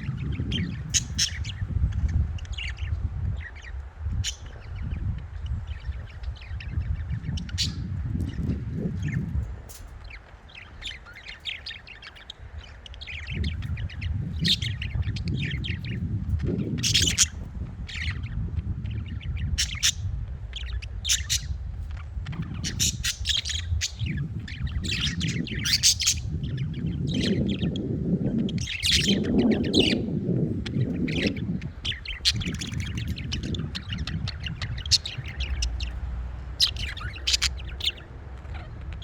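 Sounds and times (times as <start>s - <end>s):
low rumbling noise: 0.0s - 39.0s
budgerigars chirping: 0.3s - 27.8s, 28.4s - 39.0s.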